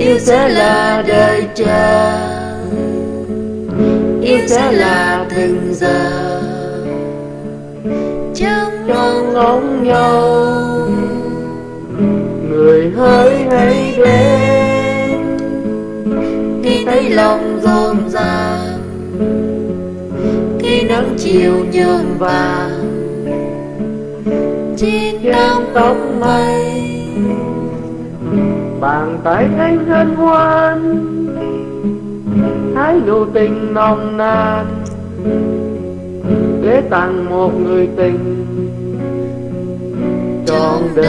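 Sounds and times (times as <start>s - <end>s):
person singing: 0.0s - 19.3s, 20.1s - 23.7s, 24.8s - 31.5s, 32.7s - 35.1s, 36.6s - 38.6s, 40.4s - 41.0s
strummed acoustic guitar: 0.0s - 41.0s.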